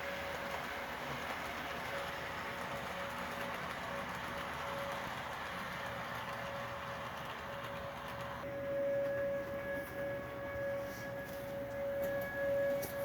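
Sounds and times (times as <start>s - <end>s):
faint tornado warning siren: 0.0s - 13.0s
train rushing noise: 0.0s - 13.0s.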